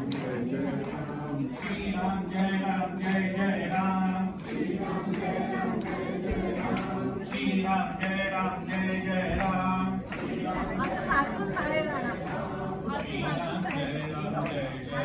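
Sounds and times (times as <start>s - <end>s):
group of voices chanting: 0.0s - 15.0s.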